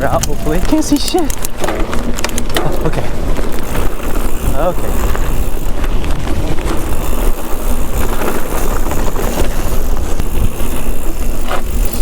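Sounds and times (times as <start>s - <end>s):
bike rattling clicks: 0.0s - 12.0s
bike tyres rumbling on dirt: 0.0s - 12.0s
wind noise on microphone: 0.0s - 12.0s.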